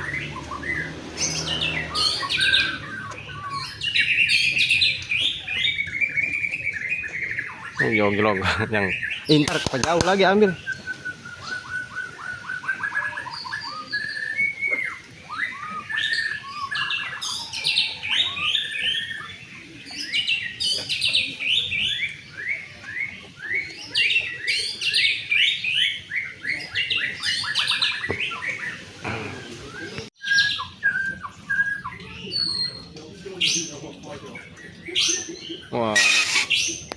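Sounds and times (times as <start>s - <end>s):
bird singing whistled song: 0.0s - 36.9s.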